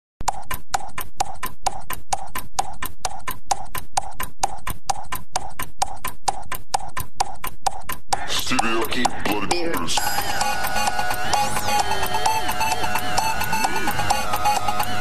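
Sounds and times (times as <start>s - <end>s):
music with sharp percussive beat: 0.2s - 15.0s.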